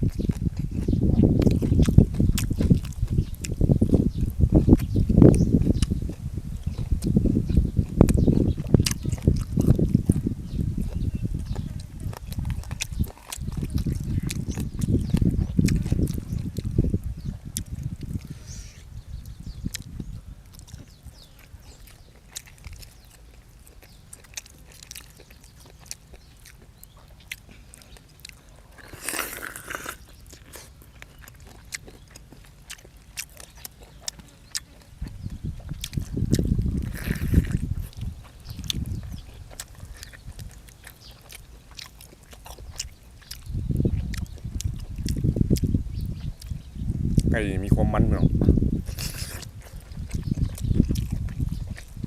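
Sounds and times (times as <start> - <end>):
person chewing: 0.0 - 47.8, 48.4 - 52.0.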